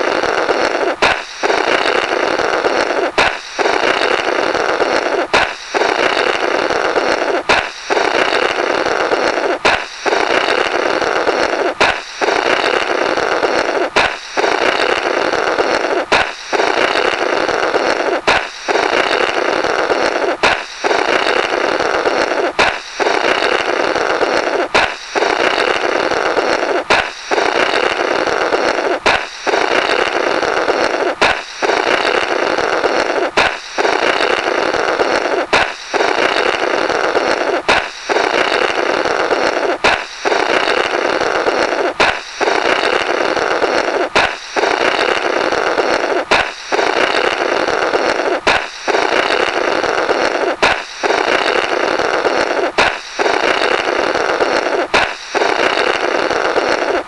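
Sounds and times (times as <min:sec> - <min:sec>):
cartoon balloon popping: 0:00.0 - 0:57.0
comical air blowing through balloon: 0:00.0 - 0:57.0.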